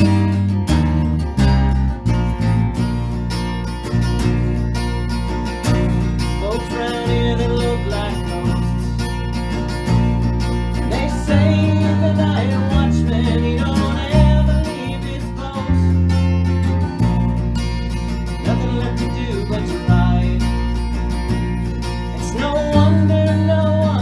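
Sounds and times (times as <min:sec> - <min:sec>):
deep bass line: 0:00.0 - 0:24.0
strummed acoustic guitar: 0:00.0 - 0:24.0.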